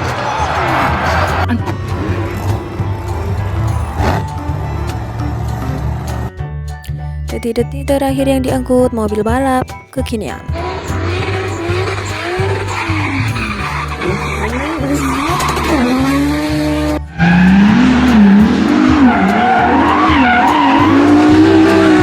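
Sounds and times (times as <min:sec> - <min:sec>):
race car engine revving: 0:00.0 - 0:06.3, 0:10.5 - 0:22.0.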